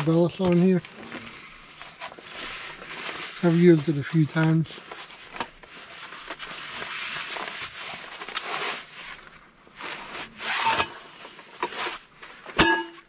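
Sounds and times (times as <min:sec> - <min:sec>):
fabric scraping on metal frame: 0:00.4 - 0:13.0.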